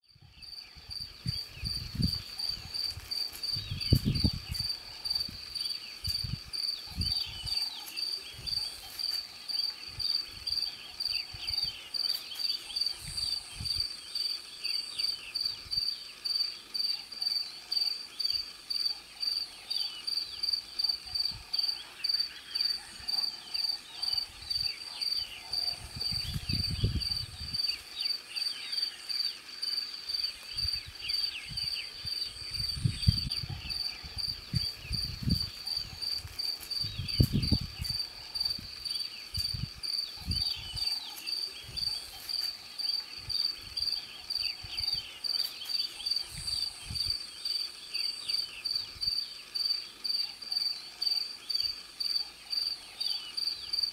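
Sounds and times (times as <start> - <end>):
crickets chirping: 0.1 - 53.9.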